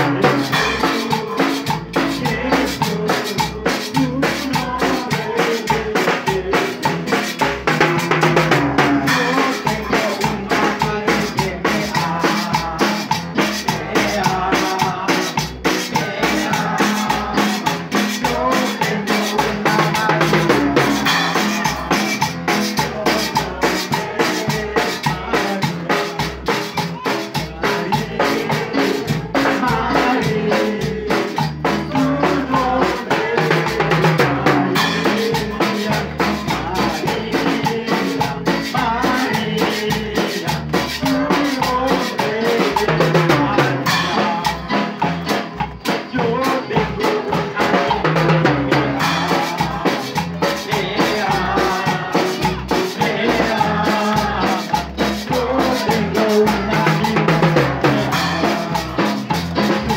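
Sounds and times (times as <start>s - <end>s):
drum kit beat: 0.0s - 59.9s
live worship music: 0.0s - 59.9s.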